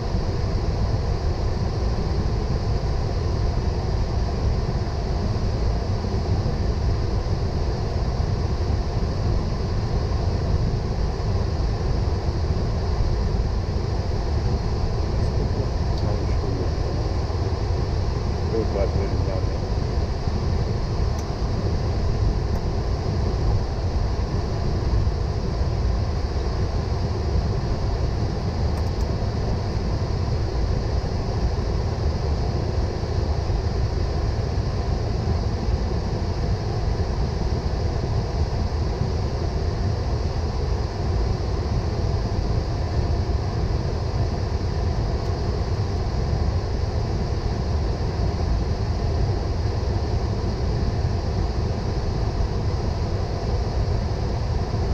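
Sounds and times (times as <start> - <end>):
cockpit low rumble: 0.0 - 54.9.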